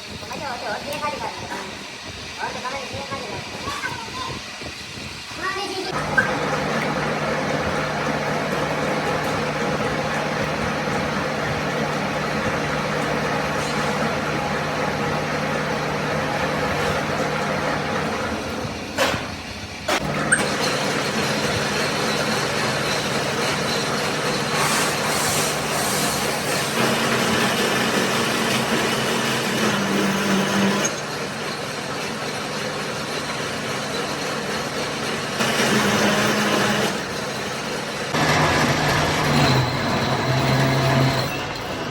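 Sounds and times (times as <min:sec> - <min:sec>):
machine humming and hissing: 0:00.0 - 0:41.9.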